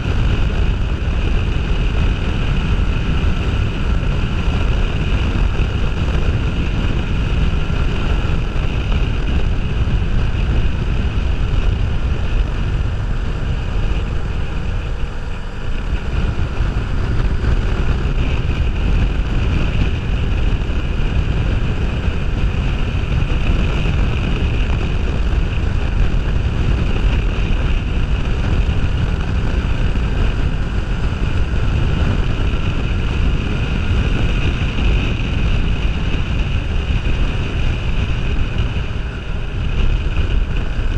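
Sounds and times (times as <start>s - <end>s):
motorcycle engine running: 0.0s - 40.9s
wind buffeting on helmet camera: 0.0s - 40.9s.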